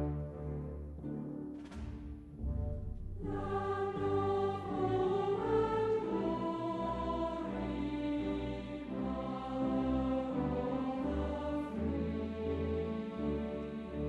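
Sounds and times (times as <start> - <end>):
choir with orchestra: 0.0 - 14.0.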